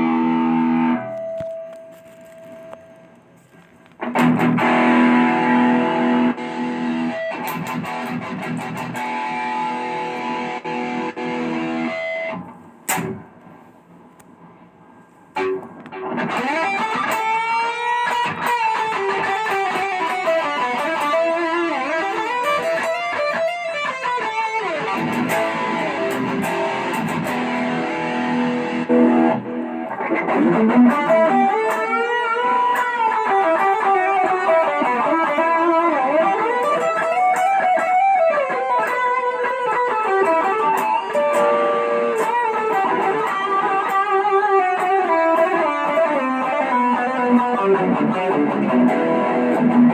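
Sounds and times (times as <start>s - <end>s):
distorted electric guitar lead: 0.0s - 13.8s, 15.3s - 49.9s.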